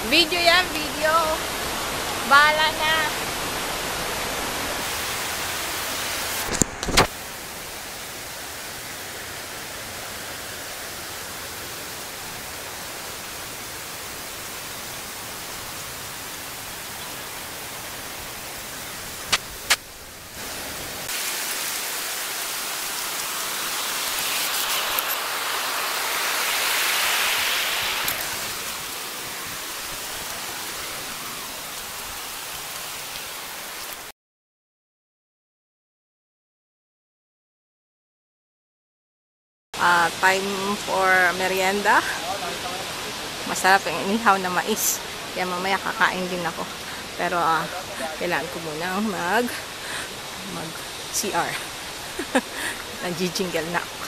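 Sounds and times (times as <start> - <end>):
waterfall rushing: 0.0 - 34.1, 39.8 - 54.0.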